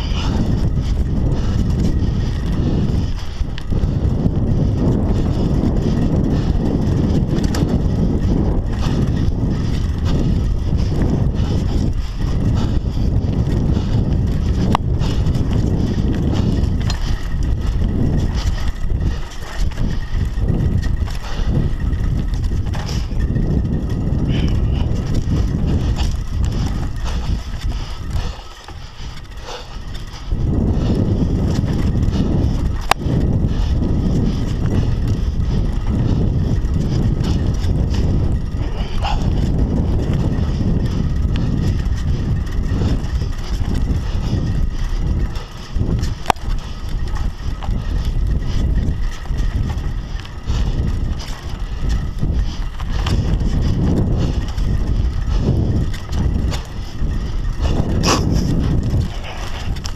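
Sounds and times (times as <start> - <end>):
bike tyres rushing on dirt: 0.0 - 59.9
wind on microphone: 0.0 - 59.9.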